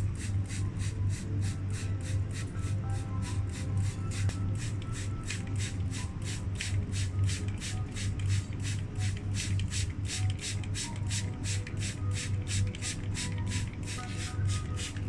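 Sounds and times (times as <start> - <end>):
spray bottle hissing sprays: 0.2 - 15.0.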